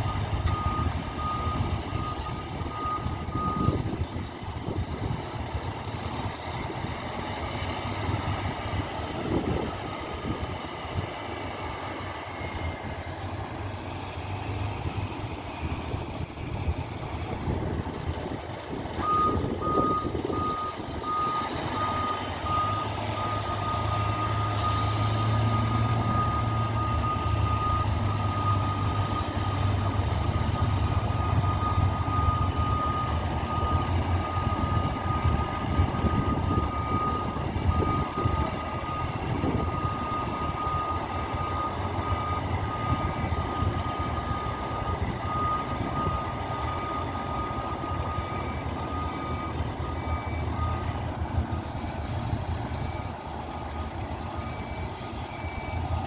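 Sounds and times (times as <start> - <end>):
diesel engine running: 0.0 - 56.0
truck reversing alarm beeping: 0.0 - 56.0.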